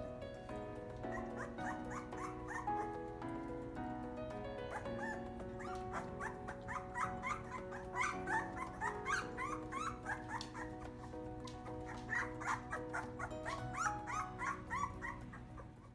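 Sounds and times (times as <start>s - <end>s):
background music held notes: 0.0s - 15.9s
puppies whining: 0.8s - 3.4s, 4.6s - 15.9s.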